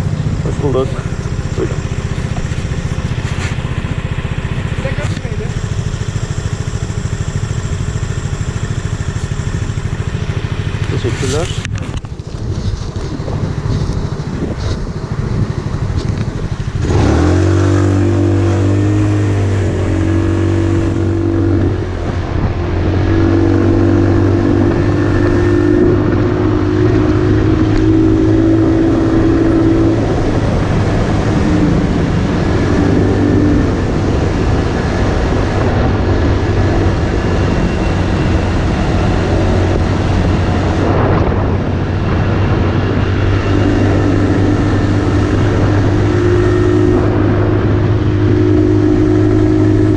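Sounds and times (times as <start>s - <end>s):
motorcycle engine running: 0.0s - 49.9s
wind rushing over microphone: 9.6s - 49.9s.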